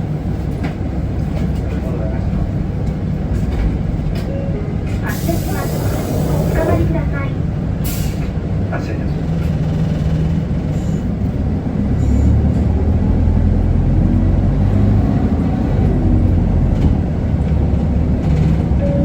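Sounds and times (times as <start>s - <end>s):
bus diesel engine: 0.0s - 19.0s.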